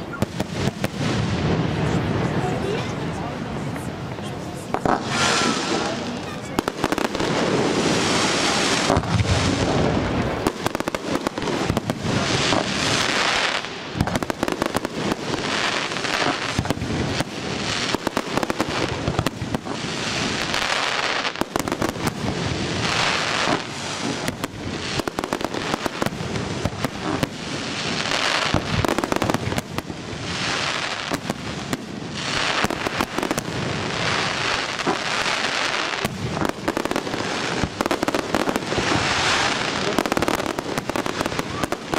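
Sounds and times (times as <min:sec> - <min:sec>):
fireworks bursts and bangs: 0:00.0 - 0:41.9
fireworks crackling: 0:00.0 - 0:41.9.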